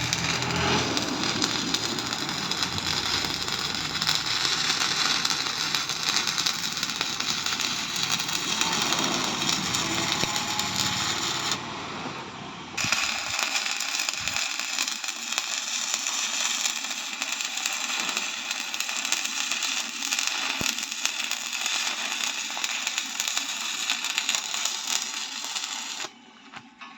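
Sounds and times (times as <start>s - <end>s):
welding arc crackling: 0.0s - 12.0s, 12.8s - 26.1s.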